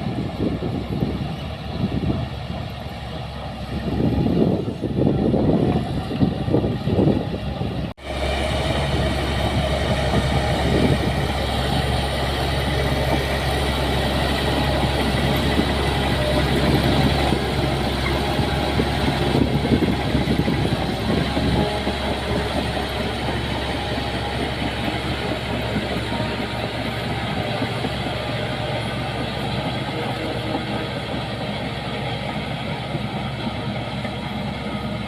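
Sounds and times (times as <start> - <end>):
diesel earthmover engine running: 0.0 - 35.0.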